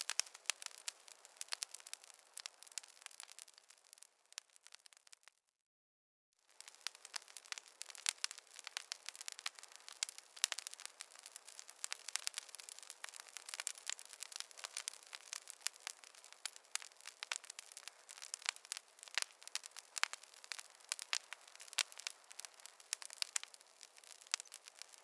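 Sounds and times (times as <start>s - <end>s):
campfire crackling: 0.0s - 5.4s, 6.4s - 25.0s.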